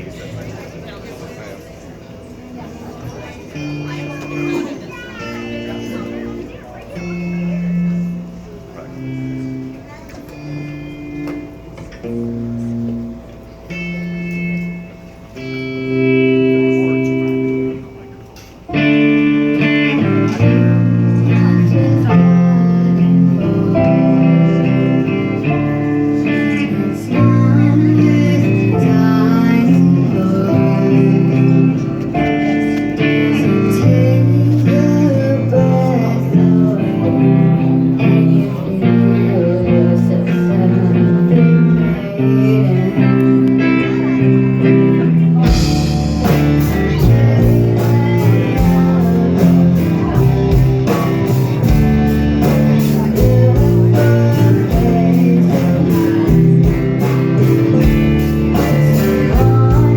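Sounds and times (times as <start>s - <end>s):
guitar chords and held notes: 0.0s - 59.9s.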